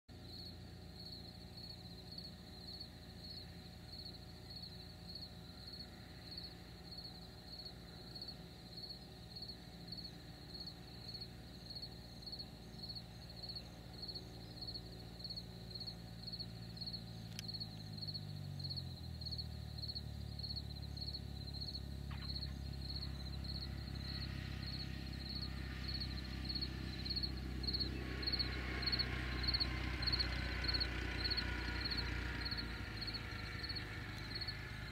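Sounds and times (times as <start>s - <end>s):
crickets chirping: 0.1s - 34.9s
small plane engine droning: 0.1s - 34.9s.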